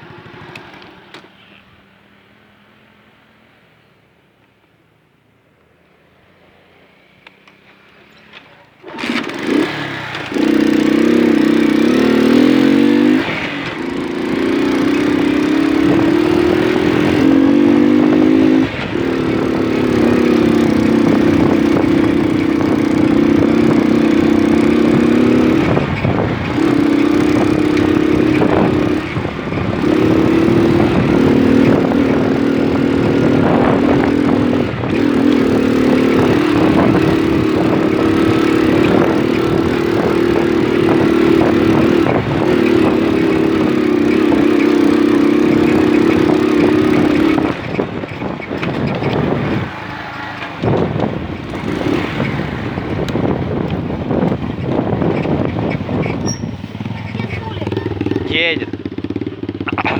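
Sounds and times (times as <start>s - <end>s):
moped engine running: 8.8s - 59.9s.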